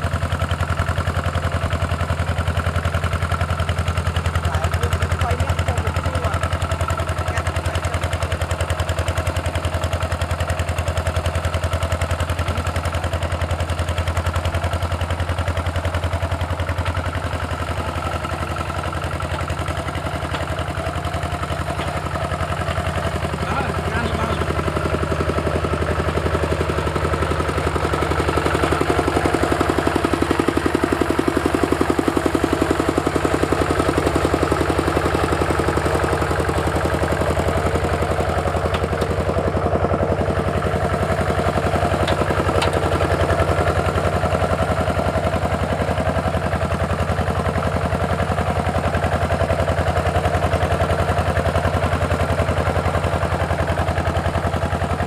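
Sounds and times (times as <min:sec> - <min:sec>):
tractor engine chugging: 0:00.0 - 0:55.0.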